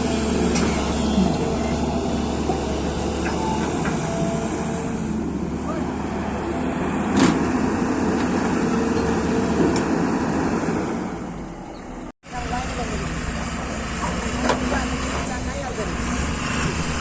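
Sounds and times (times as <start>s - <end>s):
diesel engine of heavy machinery: 0.0s - 17.0s.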